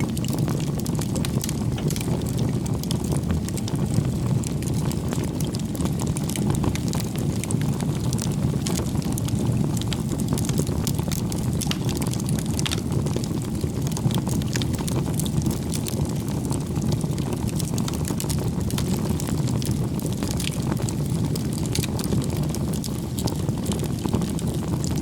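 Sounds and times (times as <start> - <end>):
firewood crackling and popping: 0.0 - 25.0
low rumble of flames: 0.0 - 25.0.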